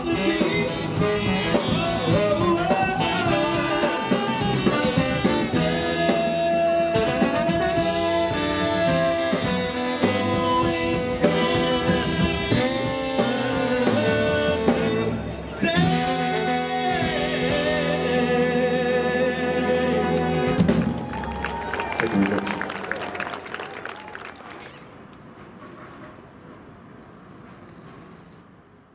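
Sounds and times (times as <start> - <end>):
brass band with drum kit: 0.0 - 23.4.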